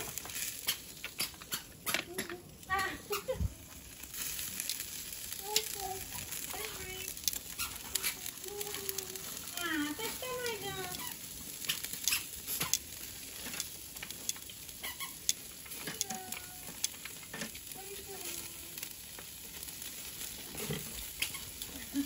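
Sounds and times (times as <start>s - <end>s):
food sizzling on a grill: 0.0s - 22.0s.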